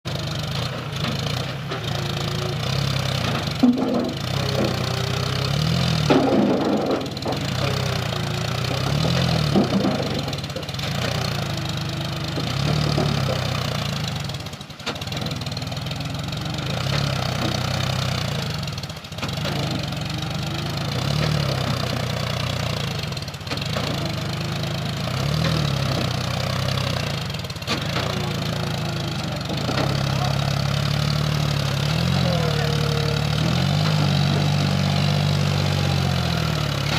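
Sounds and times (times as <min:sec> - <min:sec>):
tractor diesel engine revving: 0:00.0 - 0:36.9.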